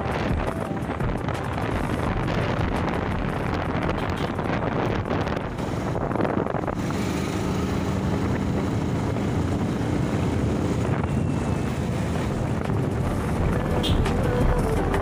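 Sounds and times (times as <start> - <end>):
motorcycle engine running: 0.0 - 15.0
wind on microphone: 0.0 - 15.0.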